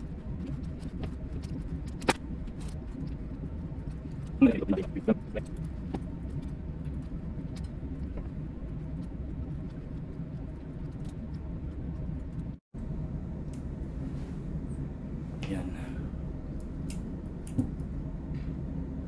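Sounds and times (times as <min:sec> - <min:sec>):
low machinery drone: 0:00.0 - 0:19.0.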